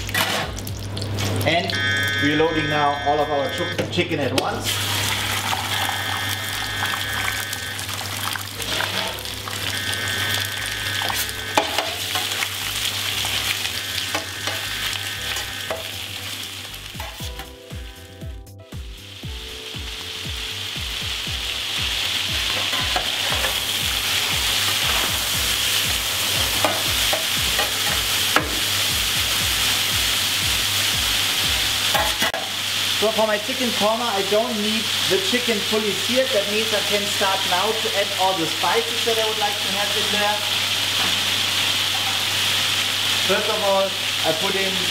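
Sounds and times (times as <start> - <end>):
chicken sizzling in a pan: 4.6 - 44.9.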